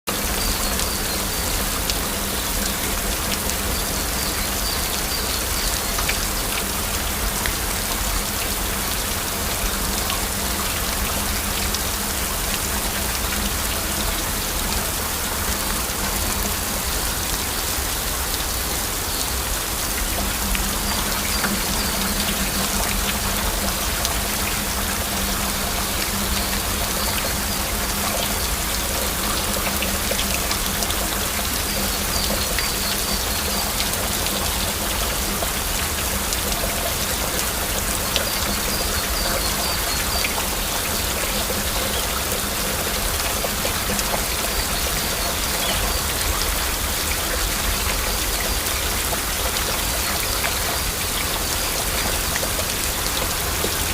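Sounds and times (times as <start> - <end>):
heavy rain falling: 0.1 - 53.9.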